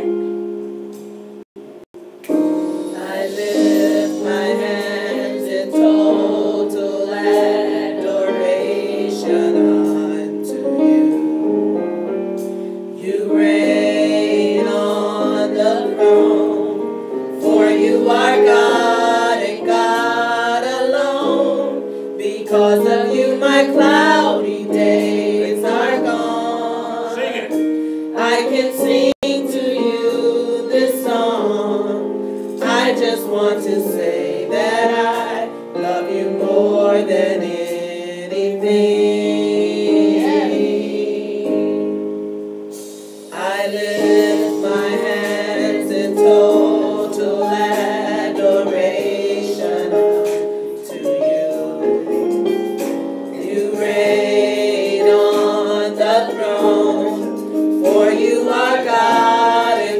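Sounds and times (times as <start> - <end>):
held keyboard chords: 0.0 - 59.9
group singing gospel: 2.6 - 11.4, 12.9 - 59.9.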